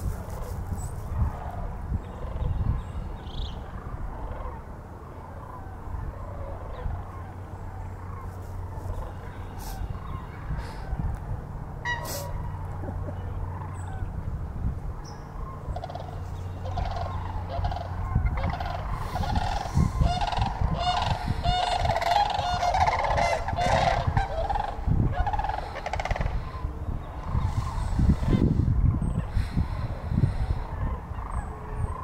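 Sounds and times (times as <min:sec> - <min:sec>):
cranes calling: 0:00.0 - 0:11.1, 0:11.8 - 0:14.3, 0:15.0 - 0:32.0.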